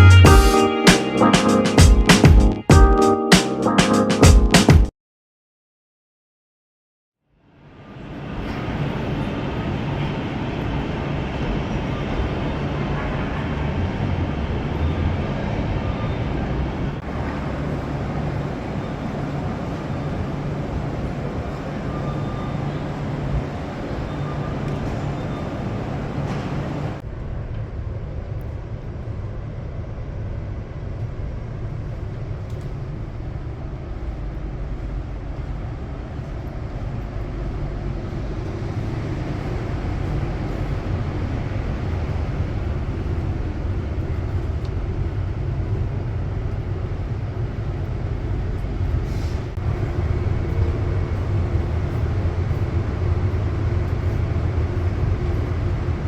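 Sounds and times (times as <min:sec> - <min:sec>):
passenger train rumbling: 0:00.0 - 0:01.8, 0:07.6 - 0:56.0.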